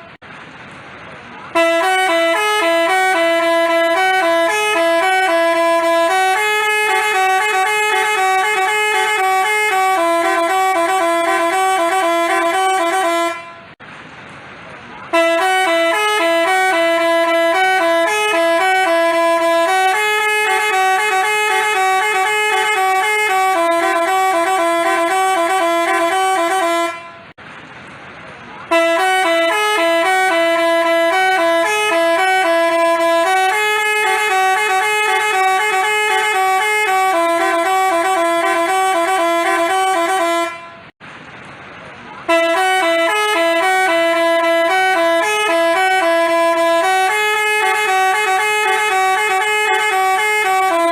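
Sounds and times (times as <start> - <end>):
multi-tone bus horn playing tune: 0.0 - 0.2, 1.4 - 13.8, 15.0 - 27.4, 28.6 - 41.0, 42.2 - 50.9.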